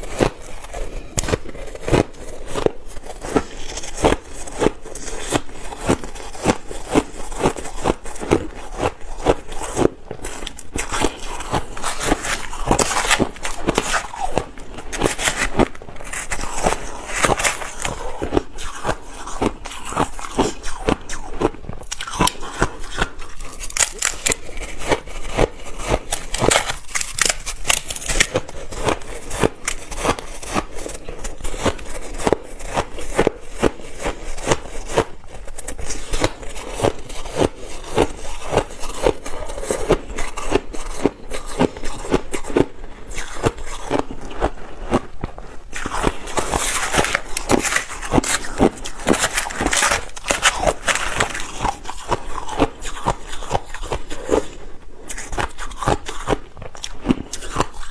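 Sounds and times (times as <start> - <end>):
crunching and chewing ice: 0.0 - 57.9.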